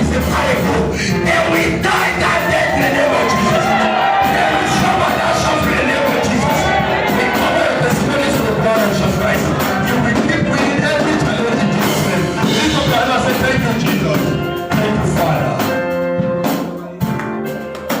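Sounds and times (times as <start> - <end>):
music with drums and singing: 0.0 - 18.0.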